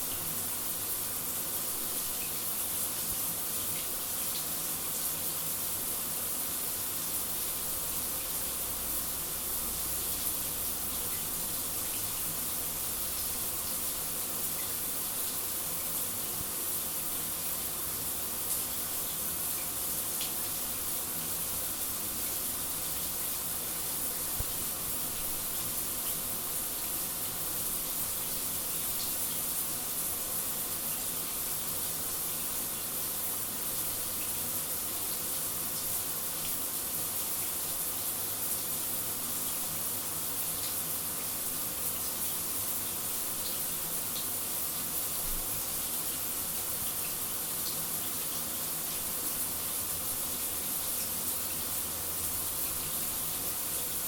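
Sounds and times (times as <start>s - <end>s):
shower water hissing: 0.0s - 54.0s.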